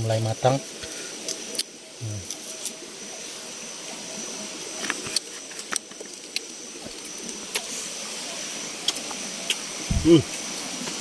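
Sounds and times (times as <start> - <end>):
forest background noise: 0.0 - 11.0.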